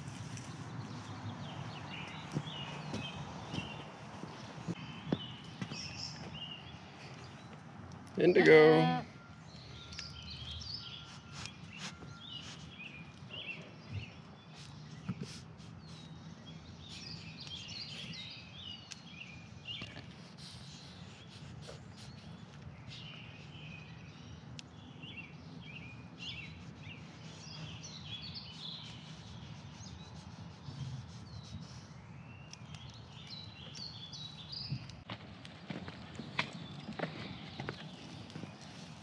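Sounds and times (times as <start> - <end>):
goats chewing weeds: 0.0 - 8.6, 9.4 - 24.8, 25.6 - 39.0
songbirds chirping and singing: 0.0 - 39.0.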